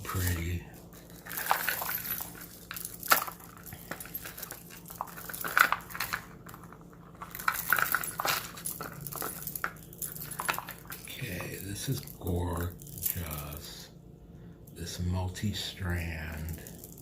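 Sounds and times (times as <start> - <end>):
bead necklaces clinking: 0.0 - 13.8, 16.2 - 17.0.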